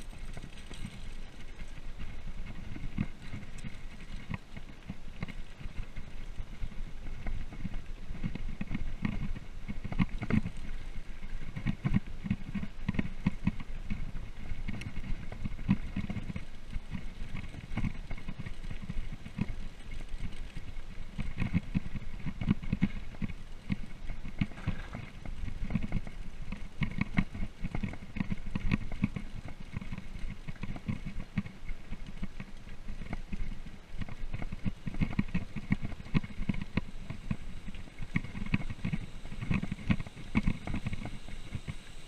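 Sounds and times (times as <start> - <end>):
bike rattling clicks: 0.0 - 42.0
bike rolling over gravel: 0.0 - 42.0.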